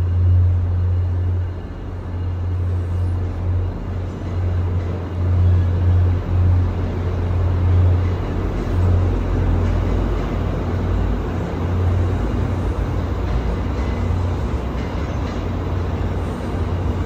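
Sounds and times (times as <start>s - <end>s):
train rolling past: 0.0s - 17.0s.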